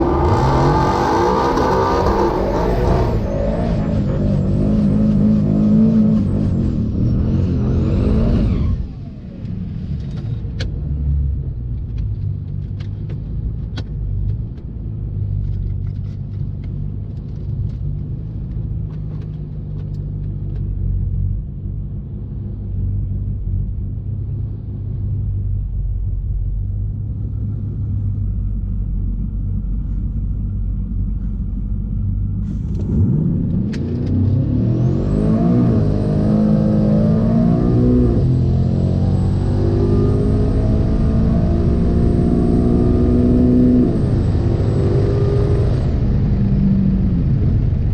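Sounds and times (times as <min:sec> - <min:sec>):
car engine running: 0:00.0 - 0:08.4, 0:09.0 - 0:47.9.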